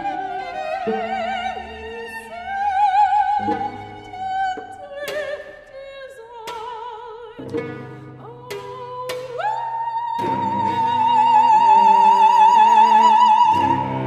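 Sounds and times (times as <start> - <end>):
cellos playing: 0.0 - 14.0
soprano singing with vibrato: 0.0 - 14.0.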